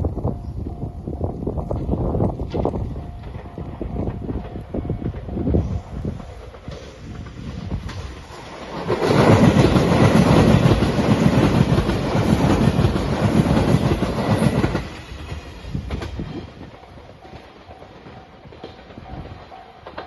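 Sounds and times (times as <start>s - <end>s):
train wheels clattering over rails: 1.6s - 20.0s.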